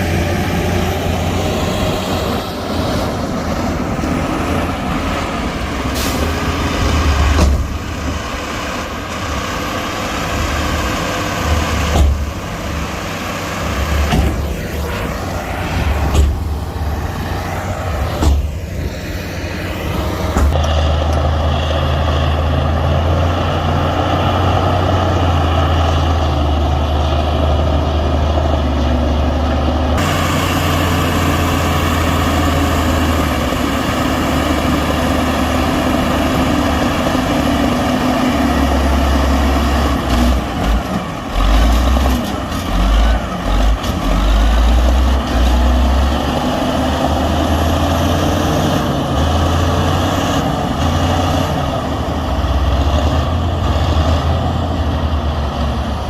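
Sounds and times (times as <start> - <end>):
diesel machinery engine drone: 0.0 - 56.0.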